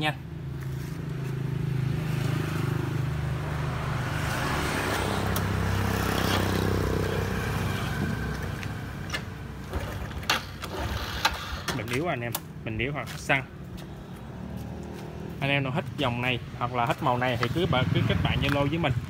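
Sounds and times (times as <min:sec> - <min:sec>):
motorbike engines running: 0:00.2 - 0:09.7, 0:12.8 - 0:19.0
motorbike passing: 0:00.3 - 0:11.7, 0:13.4 - 0:19.0.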